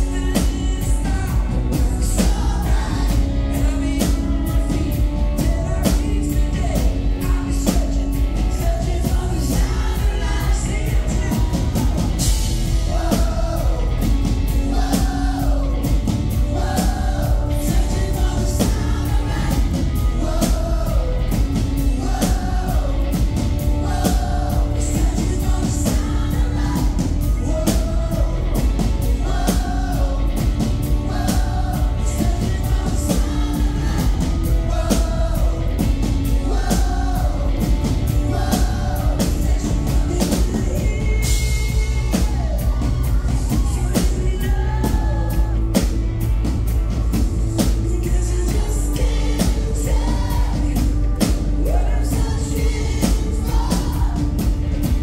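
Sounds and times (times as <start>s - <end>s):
person singing: 0.0s - 46.0s, 47.4s - 55.0s
drum beat: 0.0s - 55.0s
electric guitars: 0.0s - 55.0s.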